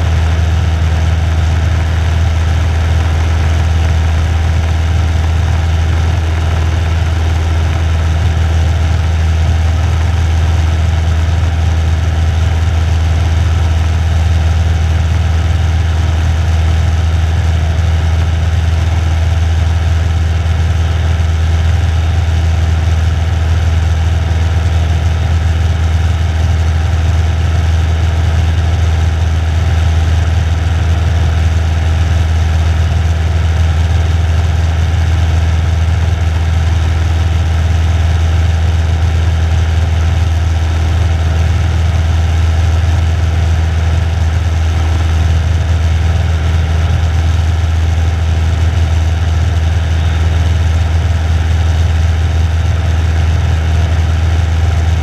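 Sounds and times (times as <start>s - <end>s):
light aircraft engine droning: 0.0s - 26.7s, 30.2s - 55.0s.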